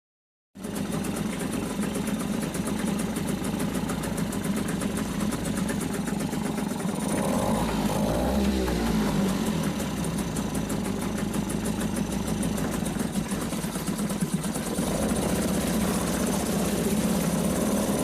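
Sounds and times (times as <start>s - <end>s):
outboard motor ticking: 0.6s - 18.0s.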